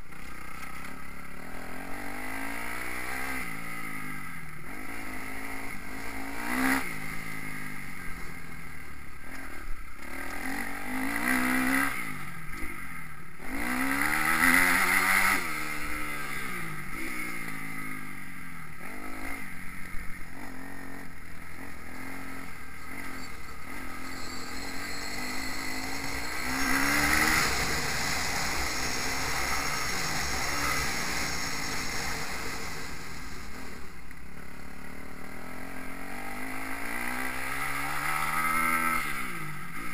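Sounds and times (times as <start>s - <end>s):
motocross bike revving: 0.1s - 39.9s.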